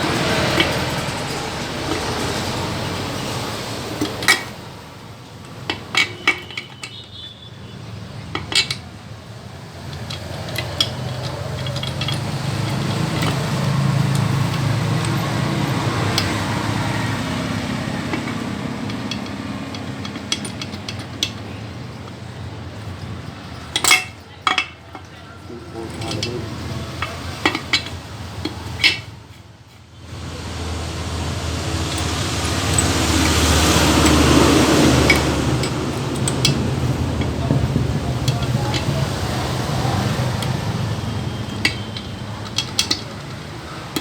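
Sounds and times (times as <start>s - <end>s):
metal tools clinking: 0.0s - 44.0s.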